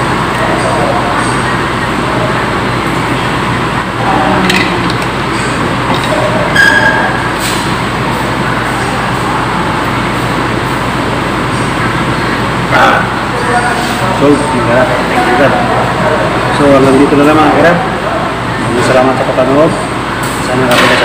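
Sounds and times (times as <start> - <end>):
restaurant dining room roar: 0.0 - 21.0.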